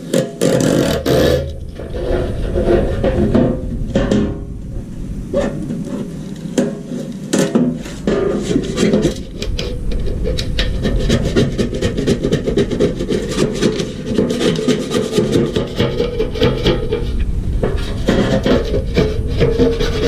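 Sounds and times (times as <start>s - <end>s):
sharp knocks: 0.0s - 17.0s
scraping on a hard surface: 0.0s - 20.0s.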